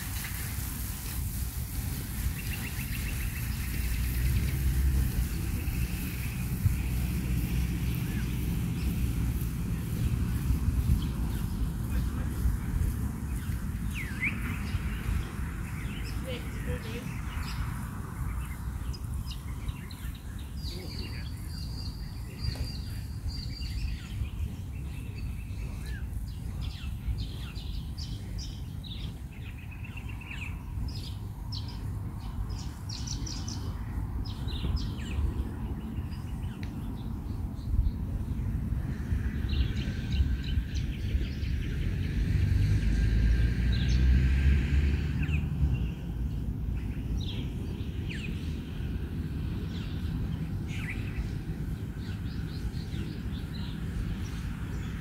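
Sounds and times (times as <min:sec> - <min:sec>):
birds chirping and calling: 0:00.0 - 0:42.2, 0:45.1 - 0:55.0
steady low rumble: 0:00.0 - 0:42.3, 0:45.0 - 0:55.0.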